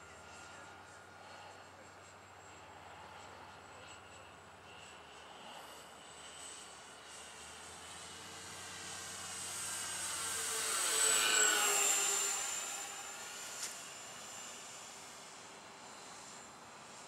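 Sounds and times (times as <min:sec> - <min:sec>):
model airplane motors whining: 0:00.0 - 0:17.0.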